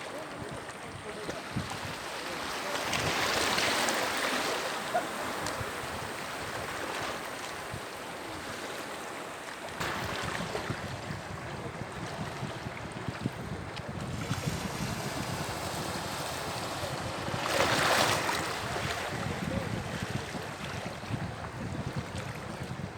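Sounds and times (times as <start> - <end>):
wind buffeting microphone: 0.0 - 8.5, 9.7 - 22.9
sea waves breaking: 0.0 - 22.9.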